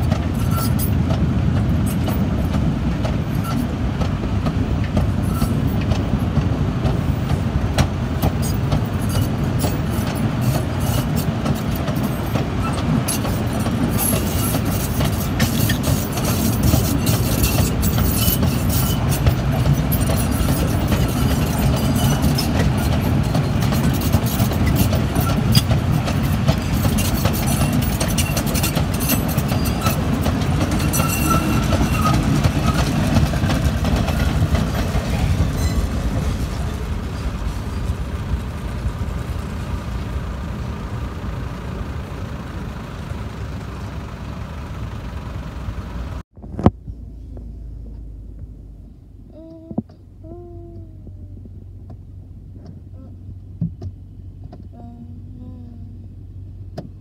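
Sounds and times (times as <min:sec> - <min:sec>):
wheels clicking over rail joints: 0:00.0 - 0:46.8
train wagons rumbling: 0:00.0 - 0:57.0.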